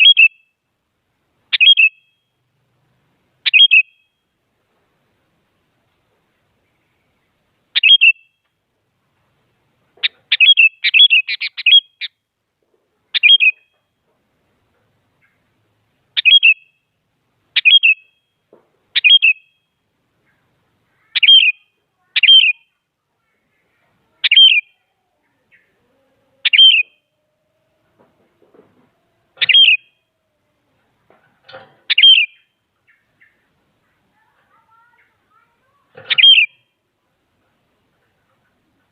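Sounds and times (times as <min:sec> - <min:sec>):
bird chirping calls: 0:00.0 - 0:00.6, 0:01.4 - 0:02.4, 0:03.4 - 0:04.3, 0:06.6 - 0:08.5, 0:09.9 - 0:12.3, 0:13.0 - 0:38.9.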